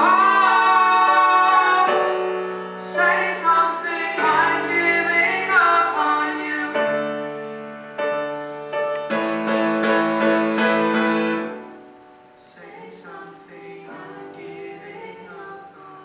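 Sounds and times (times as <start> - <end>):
grand piano chords and notes: 0.0 - 16.0.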